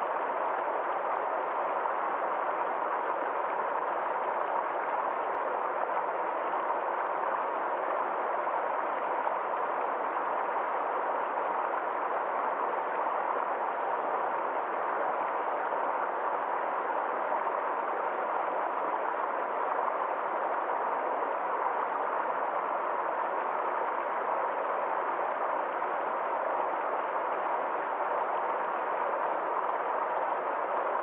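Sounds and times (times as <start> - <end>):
stream flowing: 0.0 - 31.0.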